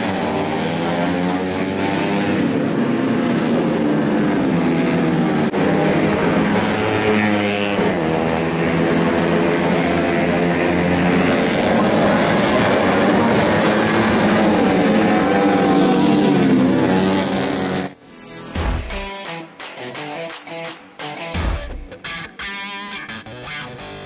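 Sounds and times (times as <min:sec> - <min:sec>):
motorcycles racing at high revs: 0:00.0 - 0:21.4.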